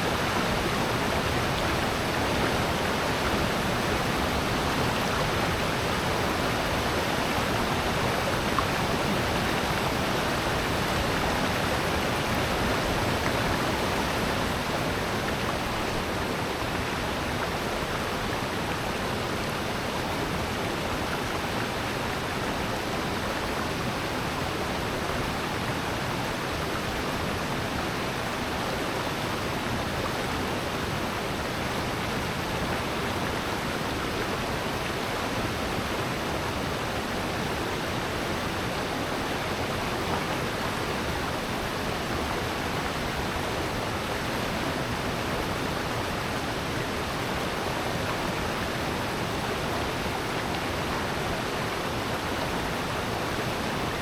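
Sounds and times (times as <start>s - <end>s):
stream and waterfall rushing: 0.0s - 54.0s.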